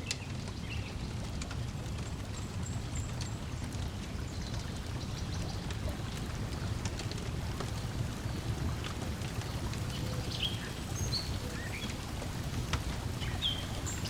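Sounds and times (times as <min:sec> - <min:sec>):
wood fire crackling: 0:00.0 - 0:14.0
lake water lapping: 0:01.2 - 0:14.0.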